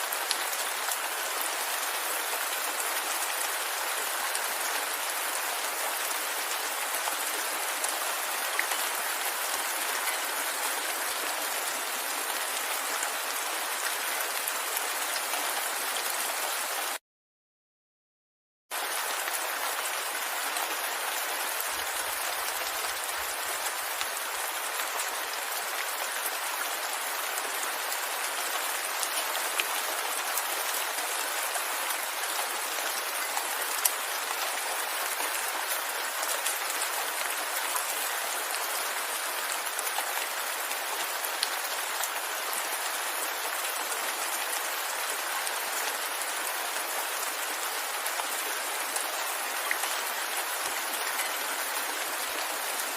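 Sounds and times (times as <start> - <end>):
steady rain falling: 0.0 - 17.0, 18.7 - 52.9.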